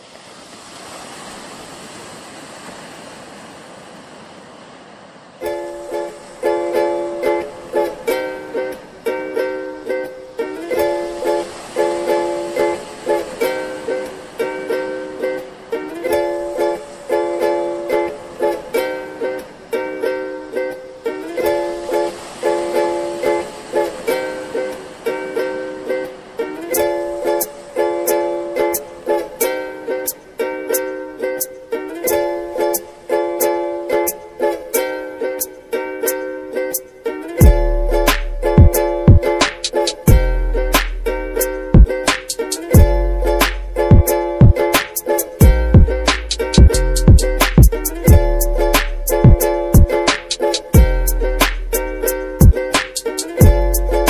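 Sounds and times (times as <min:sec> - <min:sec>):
surf: 0:00.0 - 0:54.0
wind: 0:00.0 - 0:54.0
strummed background music: 0:05.4 - 0:54.0.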